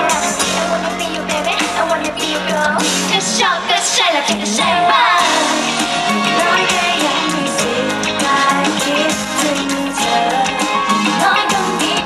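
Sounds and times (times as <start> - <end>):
drums: 0.0 - 12.0
women singing: 0.0 - 12.0.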